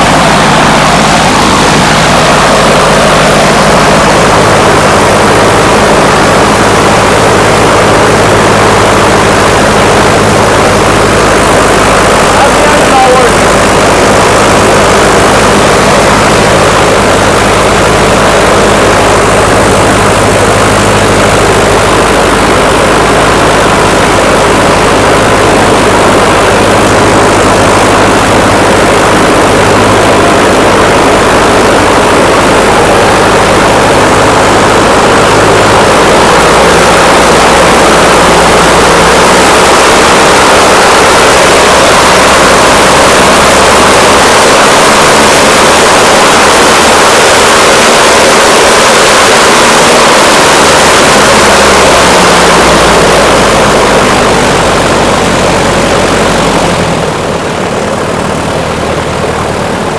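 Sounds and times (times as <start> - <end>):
piston aircraft engine and propeller: 0.0 - 59.9.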